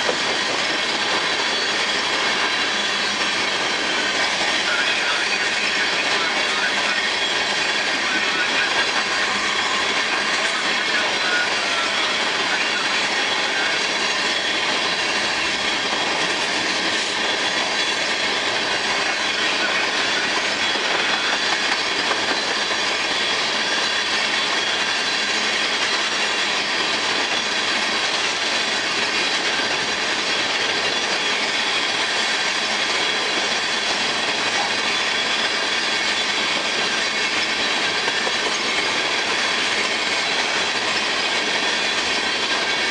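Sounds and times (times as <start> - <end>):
freight train rumbling and clattering: 0.0 - 42.9
high wheel squeal: 0.0 - 42.9.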